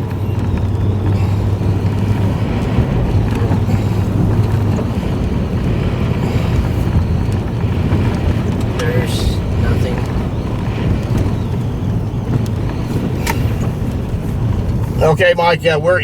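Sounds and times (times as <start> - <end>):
road noise: 0.0 - 16.0
vehicle engine drone: 0.0 - 16.0
wind noise: 0.0 - 16.0.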